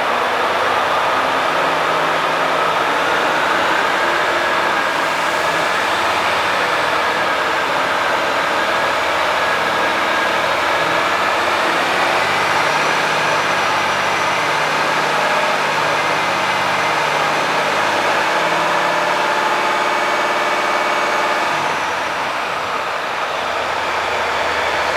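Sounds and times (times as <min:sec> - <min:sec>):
truck diesel engine idling: 0:00.0 - 0:24.9.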